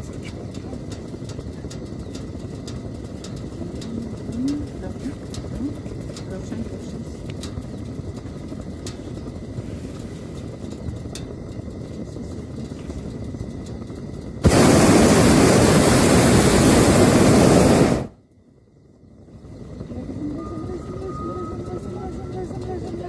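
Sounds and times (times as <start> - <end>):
low steady rumble: 0.0 - 23.0
propane burner roaring: 0.0 - 23.0.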